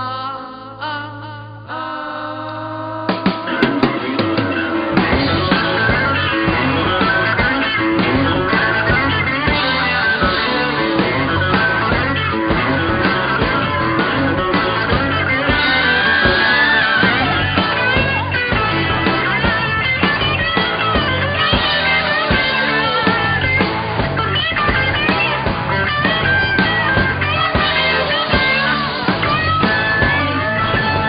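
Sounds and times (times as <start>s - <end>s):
electric guitar: 0.0s - 31.0s
rock band playing: 3.1s - 31.0s.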